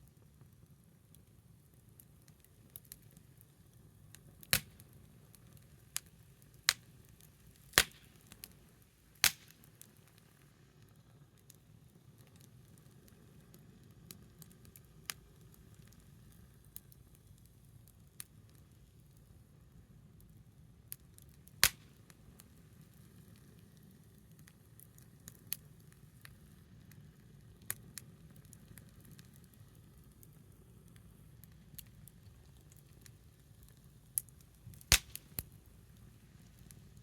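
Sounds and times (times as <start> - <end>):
wood fire crackling: 0.0 - 37.0
fire pops: 0.2 - 18.8, 20.9 - 37.0.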